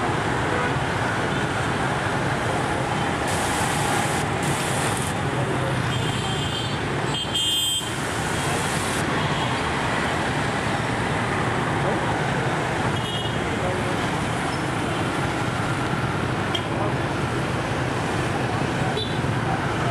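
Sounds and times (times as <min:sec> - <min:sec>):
street traffic drone: 0:00.0 - 0:19.9.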